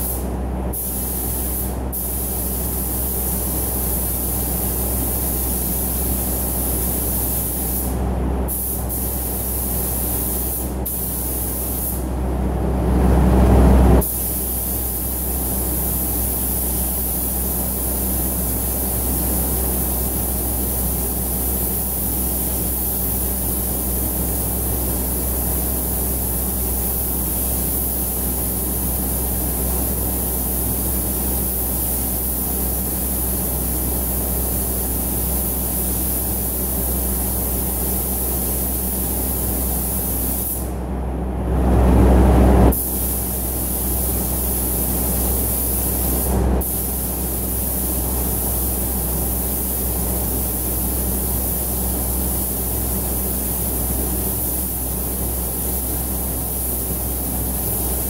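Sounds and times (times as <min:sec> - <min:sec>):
spray gun hissing: 0:00.0 - 0:12.0, 0:14.0 - 0:40.7, 0:42.7 - 0:58.0
ventilation hum: 0:00.0 - 0:58.0.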